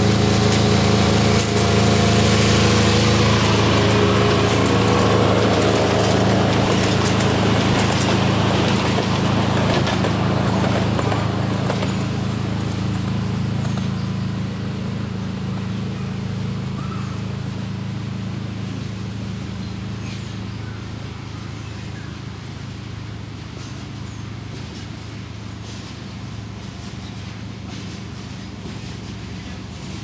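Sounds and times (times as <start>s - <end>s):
wheels clicking on track: 0.0s - 17.7s, 19.6s - 30.0s.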